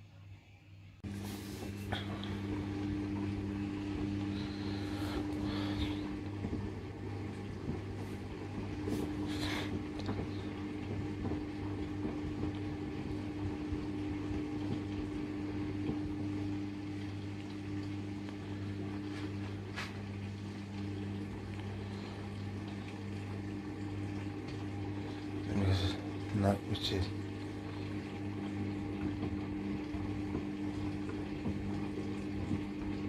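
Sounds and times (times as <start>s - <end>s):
washing machine motor hum: 0.0s - 33.0s.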